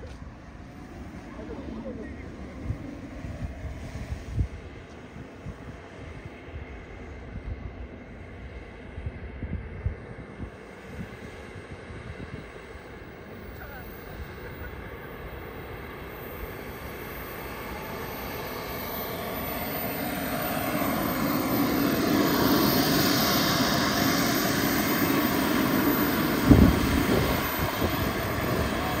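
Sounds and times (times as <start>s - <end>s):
small turbine engine running: 0.0s - 29.0s.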